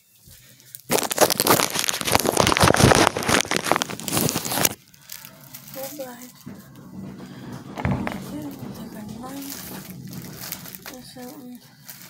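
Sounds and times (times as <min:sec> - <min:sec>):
crinkling against microphone: 0:00.0 - 0:12.0.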